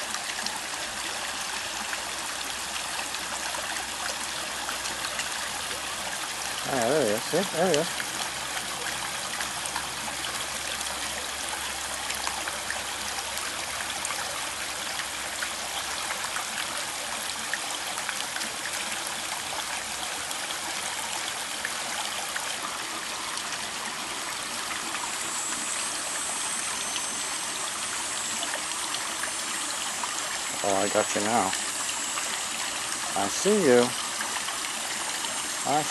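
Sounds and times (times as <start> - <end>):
pond water trickling: 0.0 - 35.9.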